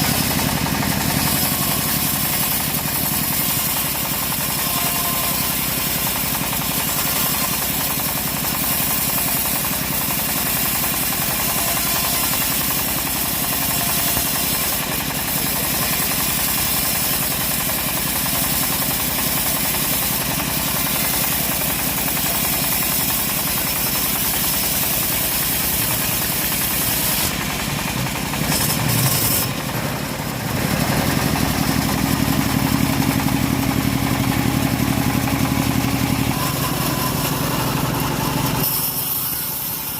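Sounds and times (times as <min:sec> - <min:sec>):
engine-driven saw cutting wood: 0:00.0 - 0:39.9.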